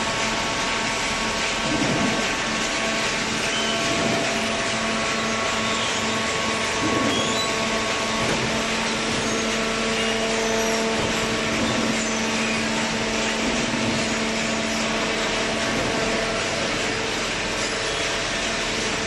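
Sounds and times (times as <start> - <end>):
hydraulic baling press humming: 0.0 - 19.0.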